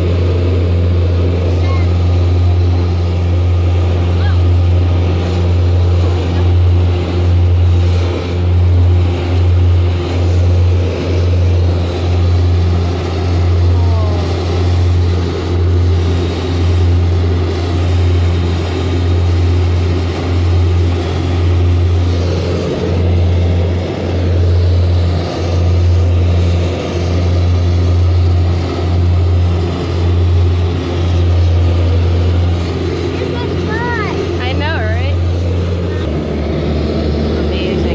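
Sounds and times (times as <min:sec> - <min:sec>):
aircraft engine drone in cabin: 0:00.0 - 0:37.9.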